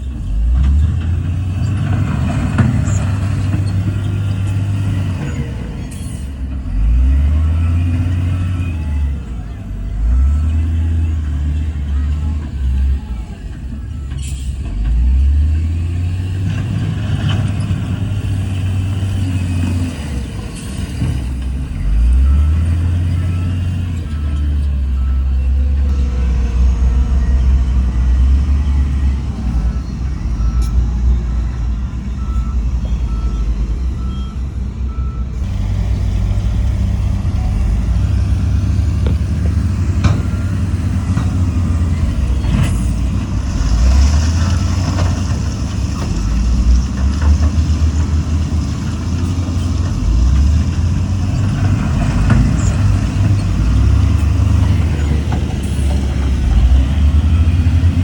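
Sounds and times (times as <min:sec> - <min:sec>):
diesel machinery engine rumble: 0:00.0 - 0:58.0
reversing alarm beeping: 0:03.7 - 0:44.7, 0:52.1 - 0:58.0.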